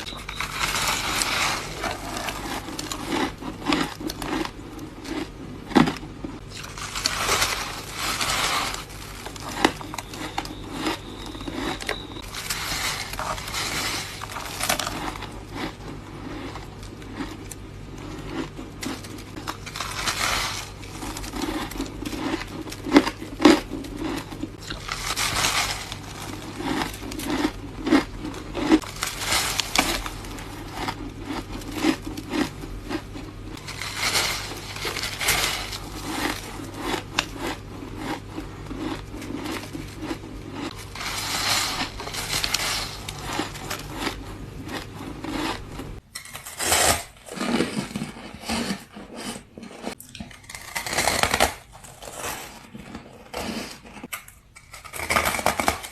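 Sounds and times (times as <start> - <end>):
steady low hum: 0.0 - 52.6
crunching and chewing ice: 0.0 - 55.9.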